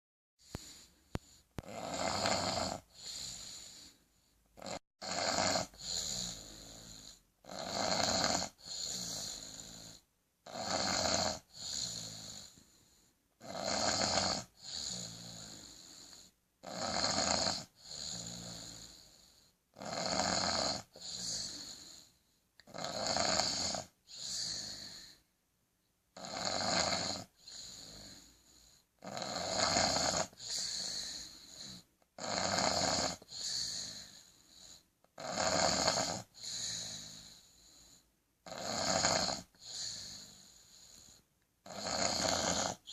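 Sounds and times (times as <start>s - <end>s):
person snoring: 0.4s - 25.3s, 26.2s - 42.9s.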